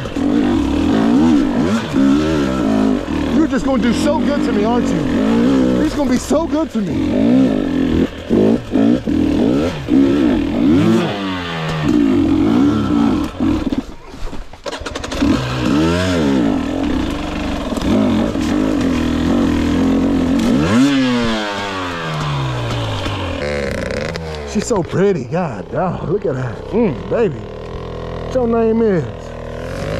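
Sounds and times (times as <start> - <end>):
two-stroke motorcycle engine revving: 0.0 - 14.0, 14.6 - 29.9.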